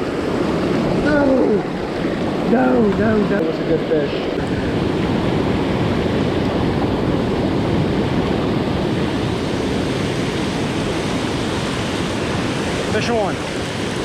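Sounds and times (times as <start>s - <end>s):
river water rushing: 0.0s - 6.8s, 7.9s - 14.0s.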